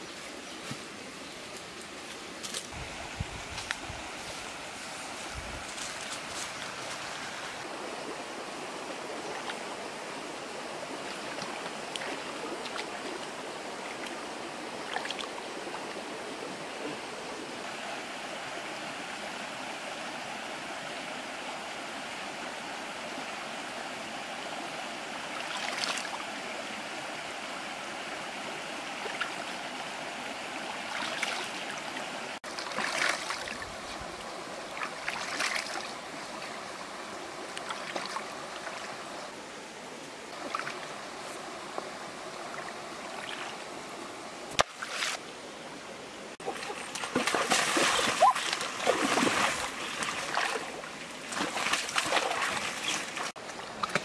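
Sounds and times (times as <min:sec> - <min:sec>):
rocky stream running: 0:00.0 - 0:54.0.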